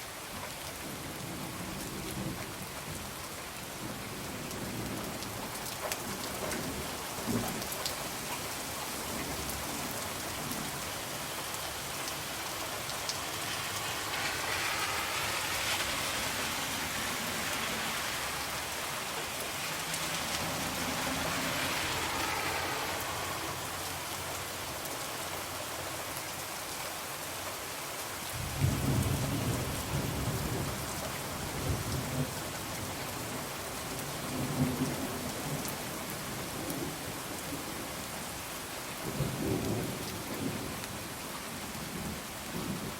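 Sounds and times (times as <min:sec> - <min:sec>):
heavy rain on a window: 0:00.0 - 0:42.9.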